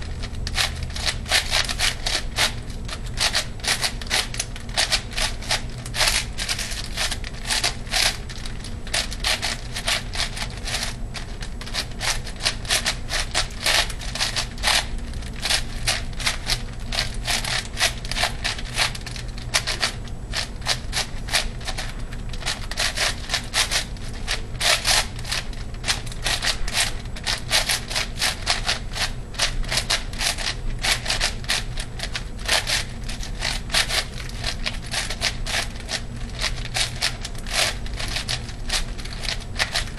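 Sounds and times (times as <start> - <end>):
puzzle cube clicking and scraping: 0.0 - 39.9
steady low hum: 0.0 - 39.9.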